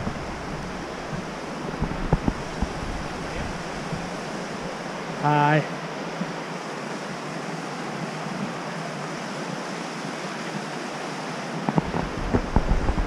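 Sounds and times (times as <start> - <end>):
river flowing over rocks: 0.0 - 13.0.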